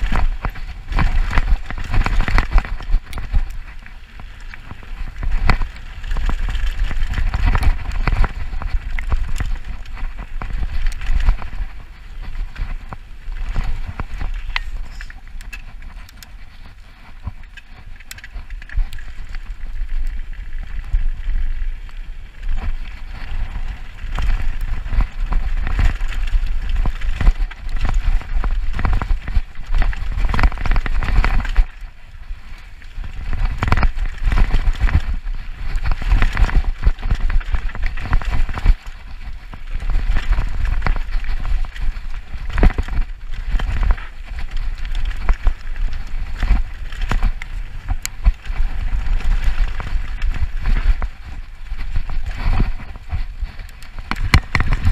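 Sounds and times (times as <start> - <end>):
bike clattering and rattling: 0.0 - 54.9
wind rumbling over microphone: 0.0 - 54.9.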